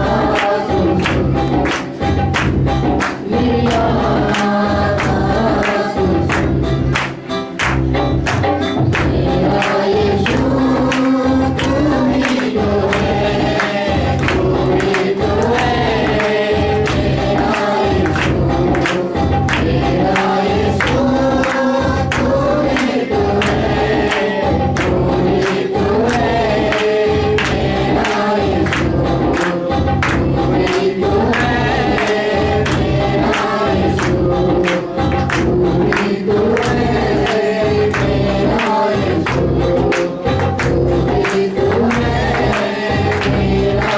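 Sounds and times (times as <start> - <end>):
voices singing in unison: 0.0 - 7.3, 8.7 - 43.9
instrumental backing with bass: 0.0 - 43.9
steady percussive beat: 0.0 - 43.9.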